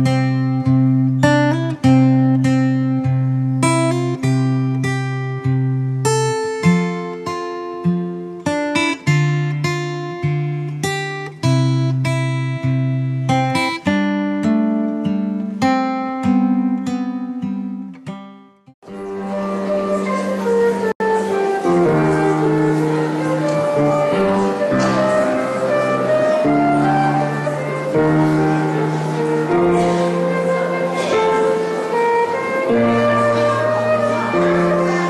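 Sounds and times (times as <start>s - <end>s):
acoustic guitar plucked: 0.0s - 35.0s.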